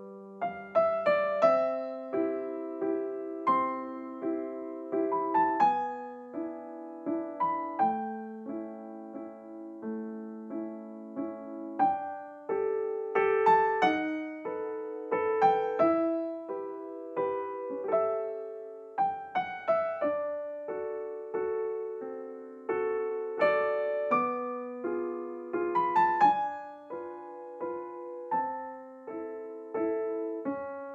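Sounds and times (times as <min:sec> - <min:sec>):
gentle piano melody: 0:00.0 - 0:30.9.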